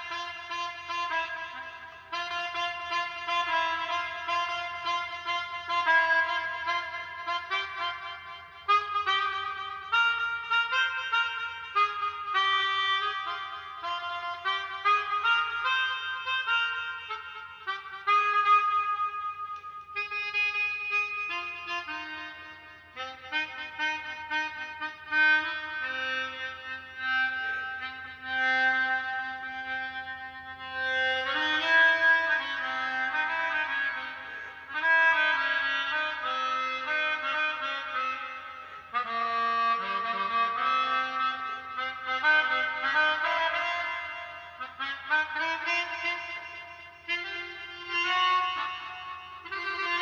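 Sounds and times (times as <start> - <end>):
free-reed instrument melody: 0.0 - 50.0.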